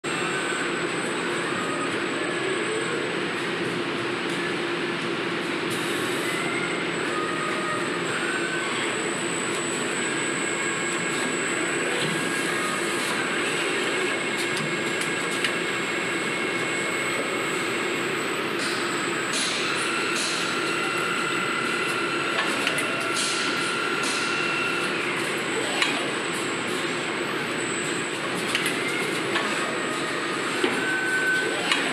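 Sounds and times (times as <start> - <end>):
high machine whine: 0.0 - 31.9
machinery low hum: 0.1 - 31.9
fainter whines: 6.0 - 31.9.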